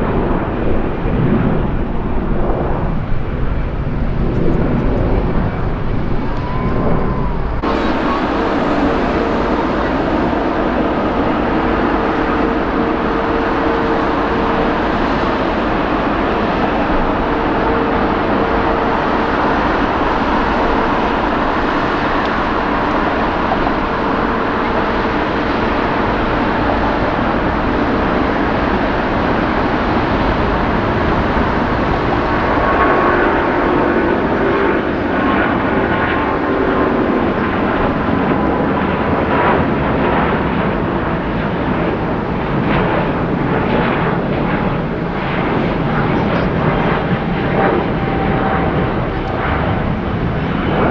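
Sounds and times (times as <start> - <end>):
jet engine whine: 0.0 - 50.9
jet engines roaring: 0.0 - 50.9.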